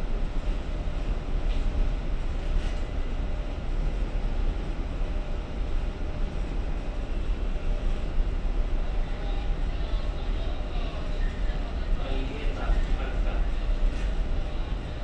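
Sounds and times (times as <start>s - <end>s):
ship machinery hum: 0.0s - 15.0s.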